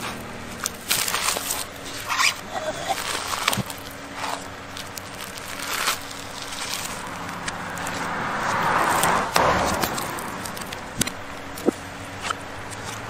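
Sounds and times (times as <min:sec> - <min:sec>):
knife rasping coconut husk: 0:00.0 - 0:13.0.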